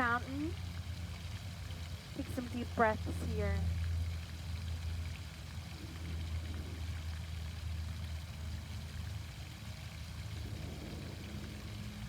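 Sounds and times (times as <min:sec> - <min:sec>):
fountain water splashing: 0:00.0 - 0:12.0
low mechanical hum: 0:00.0 - 0:12.0.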